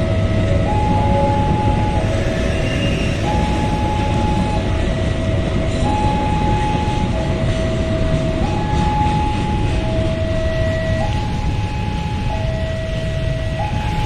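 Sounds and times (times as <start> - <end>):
heavy rain: 0.0 - 14.0
level crossing alarm two-tone: 0.0 - 14.0
train coaches rumbling over rails: 0.0 - 14.0.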